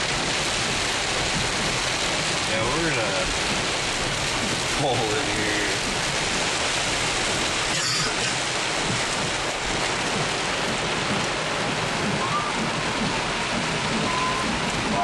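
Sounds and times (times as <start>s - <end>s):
rain on car windshield and roof: 0.0s - 15.0s.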